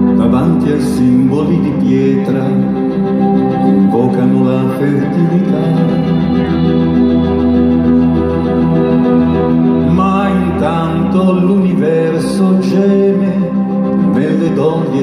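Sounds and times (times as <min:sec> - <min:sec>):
man singing: 0:00.0 - 0:07.2, 0:09.8 - 0:15.0
sustained keyboard chords: 0:00.0 - 0:15.0.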